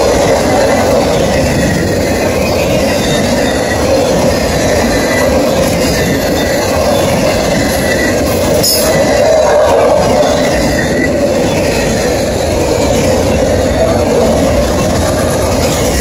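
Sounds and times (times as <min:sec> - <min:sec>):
freight train wheels rumbling: 0:00.0 - 0:16.0
high wheel squeal: 0:00.1 - 0:16.0.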